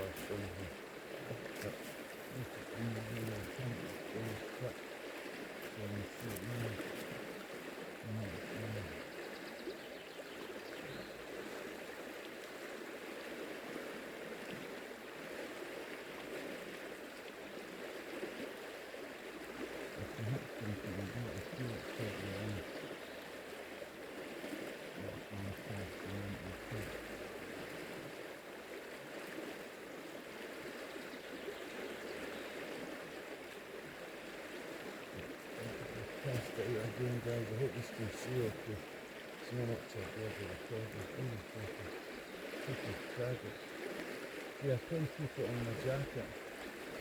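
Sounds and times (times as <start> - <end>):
river rushing: 0.0 - 9.3, 10.4 - 47.0.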